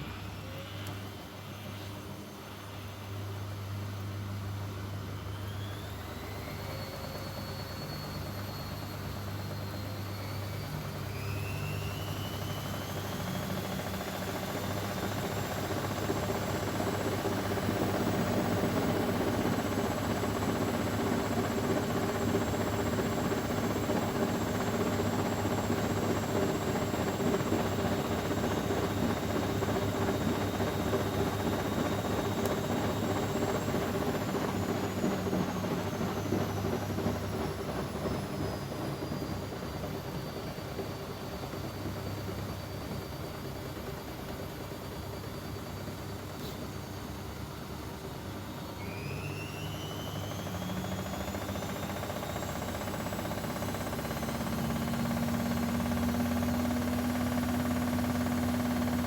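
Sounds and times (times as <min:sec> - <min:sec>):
washing machine spinning whine: 0:00.0 - 0:59.0.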